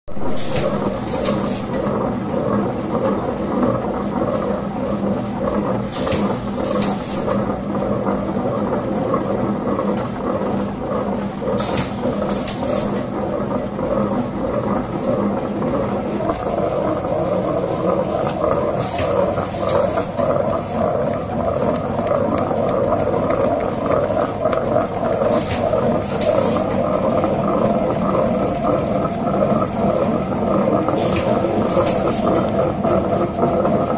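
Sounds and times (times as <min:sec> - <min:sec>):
wet grinder motor humming: 0:00.1 - 0:33.9.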